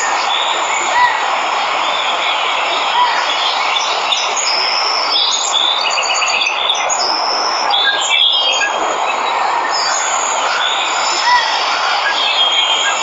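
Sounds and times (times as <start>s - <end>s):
waterfall rushing: 0.0s - 5.9s, 6.5s - 13.0s
birds chirping and whistling: 1.8s - 13.0s.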